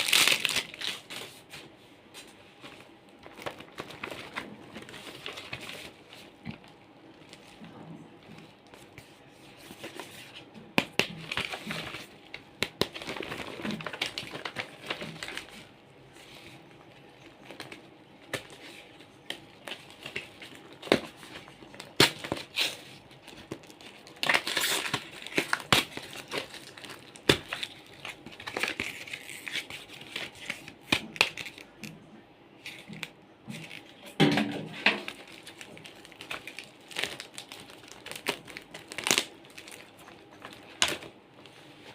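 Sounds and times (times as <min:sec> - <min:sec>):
packaging crinkling and rustling: 0:00.0 - 0:32.0, 0:32.6 - 0:41.9.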